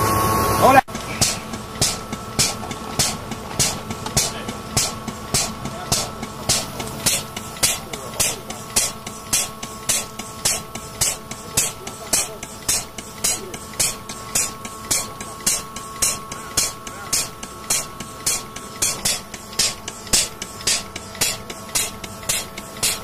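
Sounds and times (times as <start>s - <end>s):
machinery hum: 0.0s - 23.0s
air pump hissing bursts: 0.9s - 23.0s.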